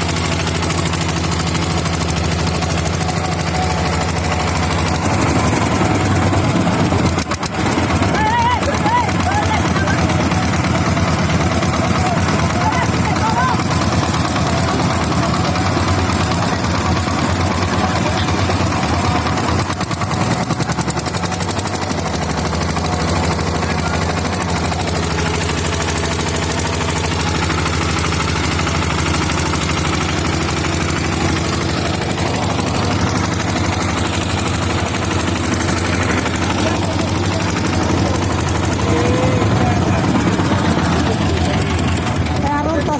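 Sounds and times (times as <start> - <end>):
boat engine chugging: 0.0 - 42.9.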